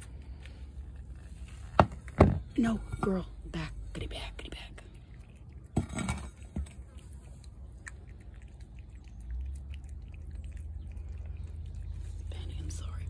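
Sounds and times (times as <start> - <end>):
cat chewing: 0.0 - 2.1, 3.8 - 12.8.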